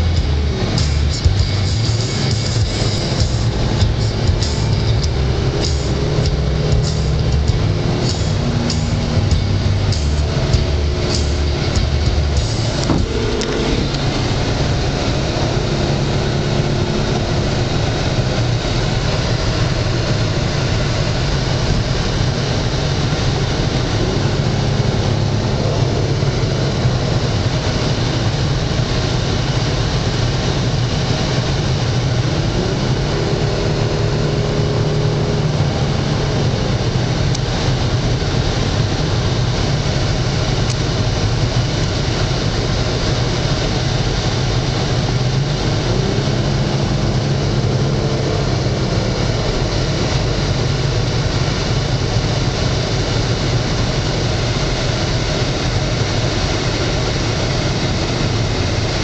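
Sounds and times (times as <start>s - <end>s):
car engine and road drone: 0.0s - 59.0s.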